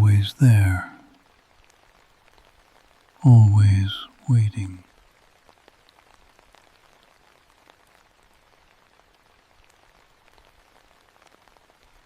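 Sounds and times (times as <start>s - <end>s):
faint rain drops ticking: 0.0s - 12.0s.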